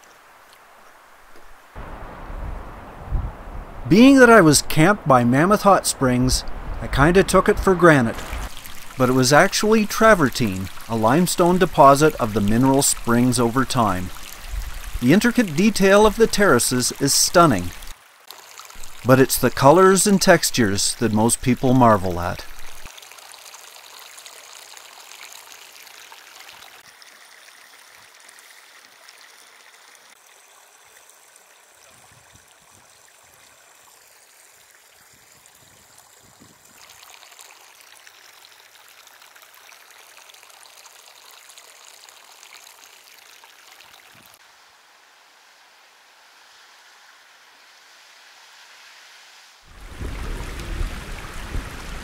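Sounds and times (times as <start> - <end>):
water trickling over rock terraces: 0.0 - 3.2, 3.8 - 52.0.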